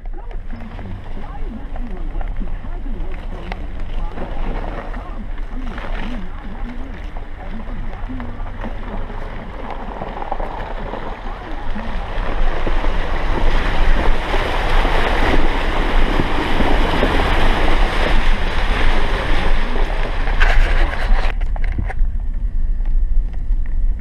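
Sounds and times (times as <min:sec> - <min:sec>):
engine and road rumble: 0:00.0 - 0:24.0
water splashing under wheels: 0:00.0 - 0:24.0
wind buffeting microphone: 0:00.0 - 0:24.0.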